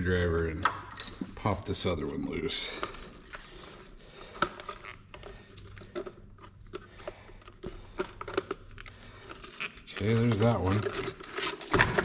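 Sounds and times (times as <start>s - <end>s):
gloved hand handling noise: 0.2s - 12.0s.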